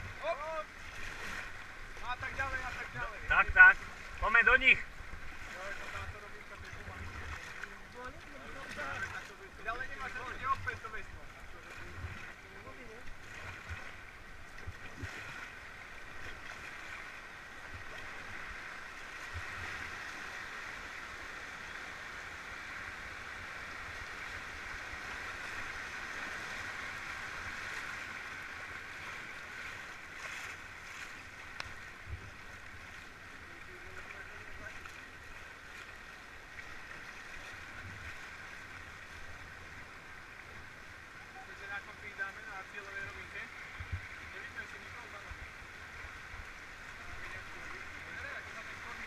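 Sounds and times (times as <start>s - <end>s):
river water rushing over rocks: 0.0s - 49.0s.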